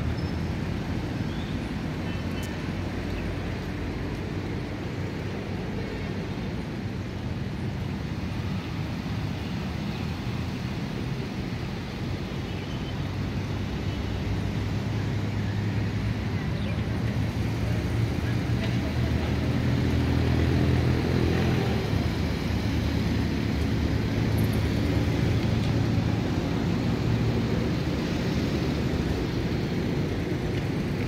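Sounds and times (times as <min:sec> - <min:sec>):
traffic hum: 0:00.0 - 0:31.0.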